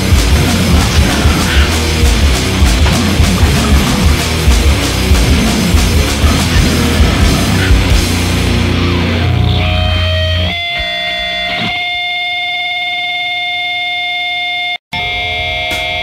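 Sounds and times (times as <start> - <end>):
heavy distorted metal band: 0.0 - 13.4
electric guitar feedback: 0.0 - 16.0.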